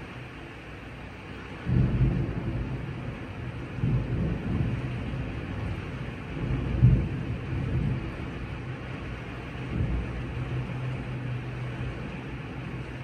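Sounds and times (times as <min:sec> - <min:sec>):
steady rain: 0:00.0 - 0:13.0
thunder rumbling: 0:01.6 - 0:13.0.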